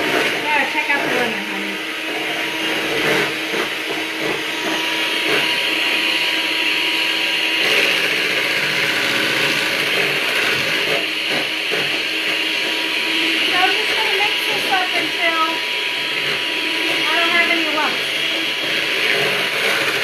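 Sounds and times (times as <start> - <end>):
electric mixer whining: 0.0 - 20.0.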